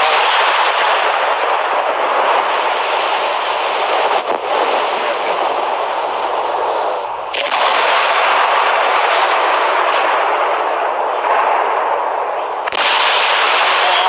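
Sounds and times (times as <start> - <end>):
fireworks barrage crackling: 0.0 - 14.0.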